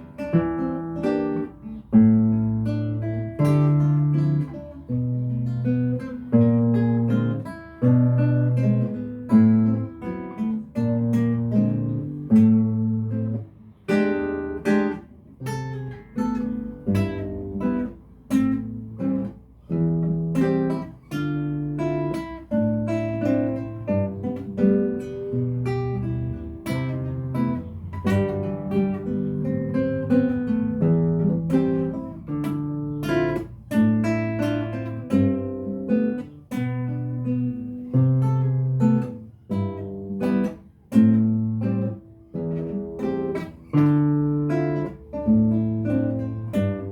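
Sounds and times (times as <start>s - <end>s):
acoustic guitar strumming chords: 0.0s - 46.9s.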